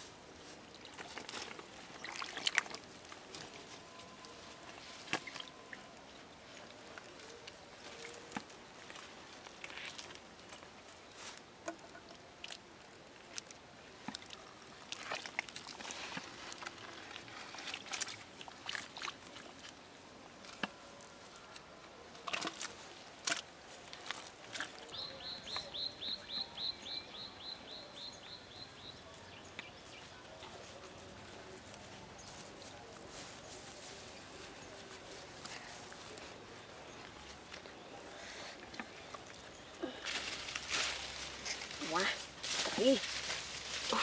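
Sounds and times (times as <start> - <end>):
leaves and grass rustling: 0.0 - 12.3, 12.9 - 21.5, 28.5 - 44.0.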